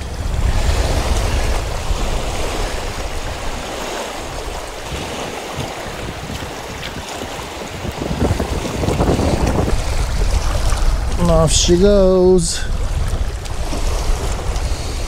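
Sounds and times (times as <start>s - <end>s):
waves washing onto rocky shore: 0.0s - 15.0s
wind buffeting microphone: 0.0s - 15.0s.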